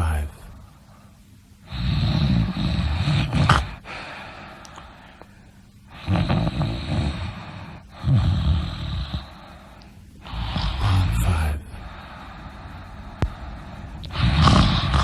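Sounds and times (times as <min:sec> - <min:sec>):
person snoring: 0:01.7 - 0:04.8, 0:05.9 - 0:15.0.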